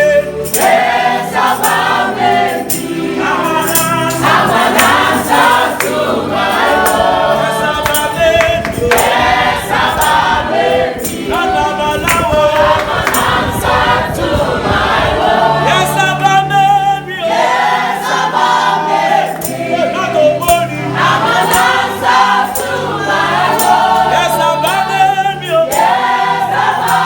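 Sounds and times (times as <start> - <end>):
choir singing gospel song: 0.0 - 27.0
instrumental accompaniment: 0.0 - 27.0
percussion beat: 0.4 - 16.0, 20.4 - 27.0.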